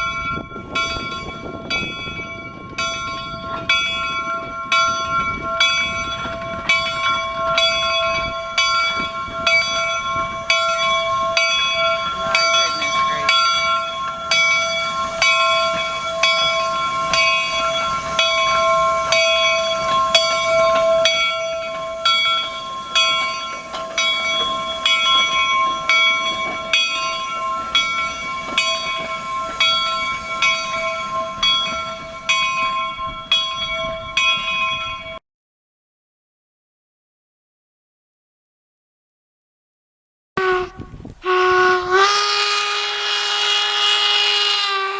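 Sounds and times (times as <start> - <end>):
steam locomotive bell ringing: 0.0 - 35.2, 40.4 - 44.9.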